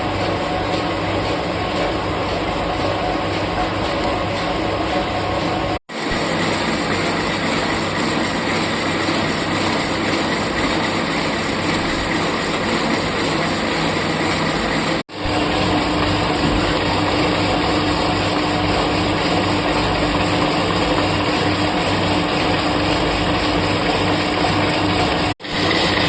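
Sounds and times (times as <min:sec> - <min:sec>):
lathe machining noise: 0:00.0 - 0:26.0.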